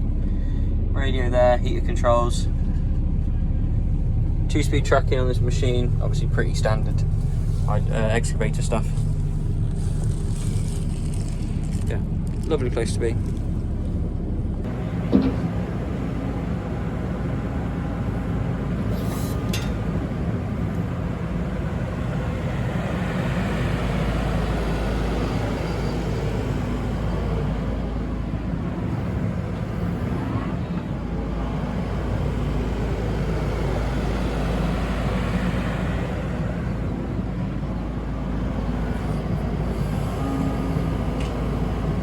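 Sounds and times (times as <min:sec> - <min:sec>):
excavator diesel engine idling: 0:00.0 - 0:42.0.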